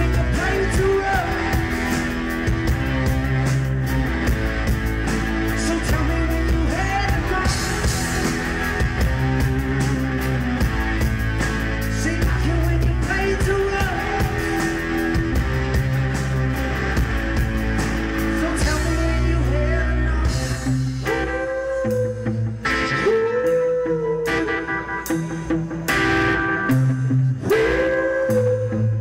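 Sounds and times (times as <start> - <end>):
electric guitar: 0.0 - 29.0
live rock music: 0.0 - 29.0.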